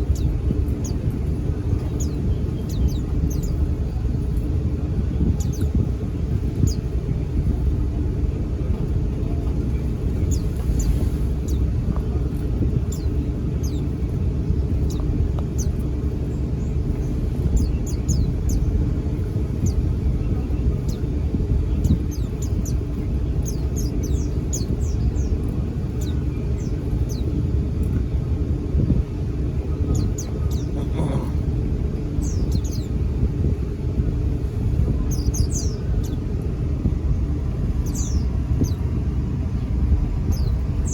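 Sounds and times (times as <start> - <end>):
birds chirping: 0.0 - 40.9
low rumble: 0.0 - 40.9.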